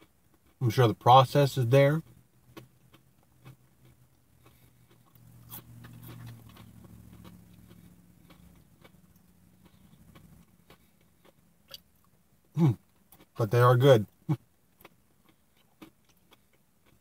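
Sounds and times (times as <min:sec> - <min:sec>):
faint chewing with mouth clicks: 0:00.0 - 0:17.0.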